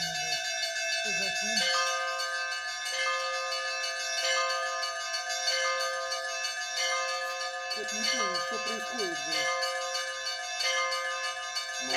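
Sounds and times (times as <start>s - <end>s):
bells ringing: 0.0s - 11.9s.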